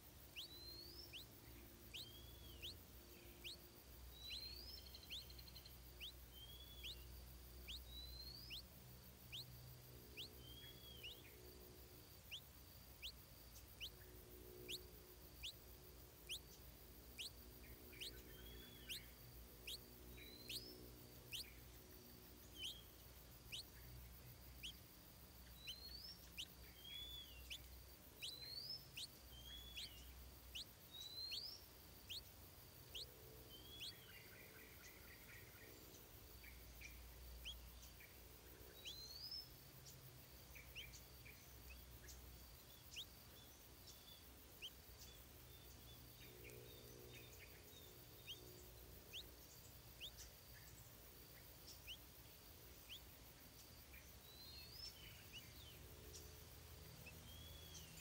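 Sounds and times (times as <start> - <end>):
faint high bird chirps: 0.0 - 58.0.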